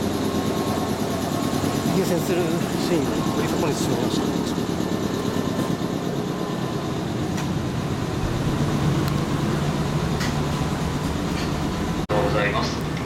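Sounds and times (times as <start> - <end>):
electric train car humming: 0.0 - 13.0.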